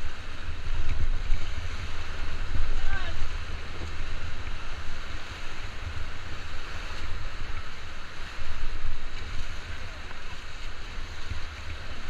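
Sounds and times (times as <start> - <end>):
river water rushing: 0.0 - 12.0
wind buffeting microphone: 0.0 - 12.0.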